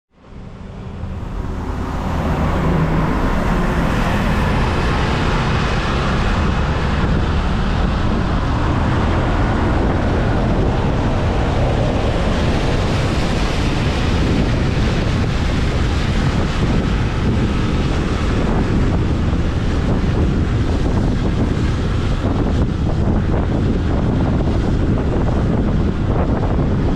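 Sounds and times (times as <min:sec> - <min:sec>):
road noise: 0:00.1 - 0:26.9
wind rushing over microphone: 0:00.2 - 0:26.9.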